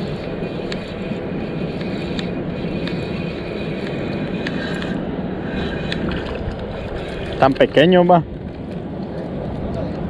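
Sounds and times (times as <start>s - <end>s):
fishing reel whirring and ticking: 0.0s - 8.2s
wind rumble on microphone: 0.0s - 10.0s.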